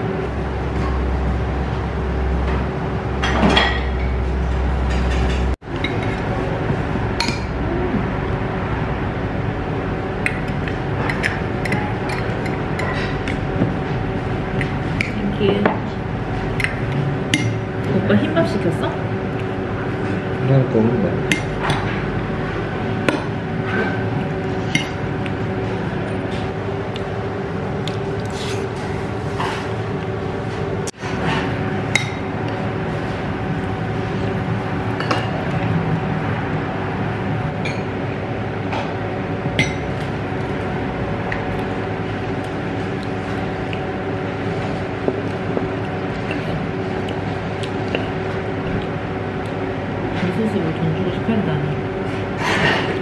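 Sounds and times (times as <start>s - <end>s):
restaurant background hum: 0.0s - 53.0s.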